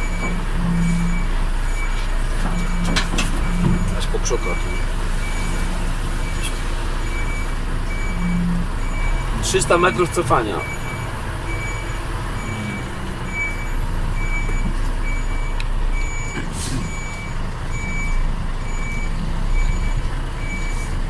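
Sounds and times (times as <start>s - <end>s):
diesel engine running: 0.0s - 21.0s
truck reversing alarm beeping: 0.0s - 21.0s.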